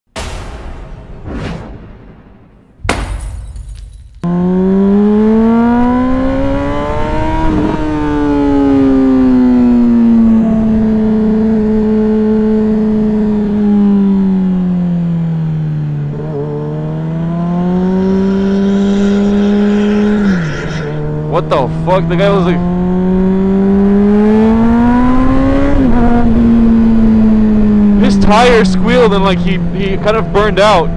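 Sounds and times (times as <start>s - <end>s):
motorcycle engine accelerating: 4.2s - 30.9s.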